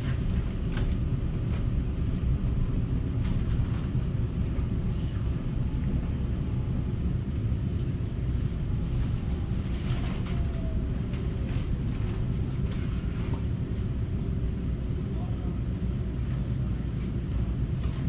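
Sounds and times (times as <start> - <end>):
low rumble inside train car: 0.0 - 18.0.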